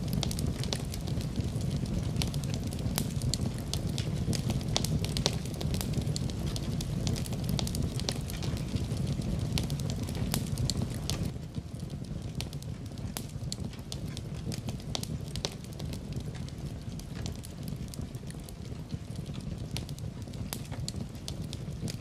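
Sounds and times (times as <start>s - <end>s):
low steady fire rumble: 0.0s - 22.0s
wood fire crackling: 0.0s - 22.0s.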